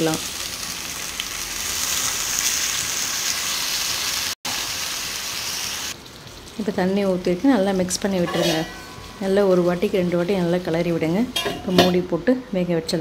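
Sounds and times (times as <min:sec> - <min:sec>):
food sizzling in hot oil: 0:00.0 - 0:12.2.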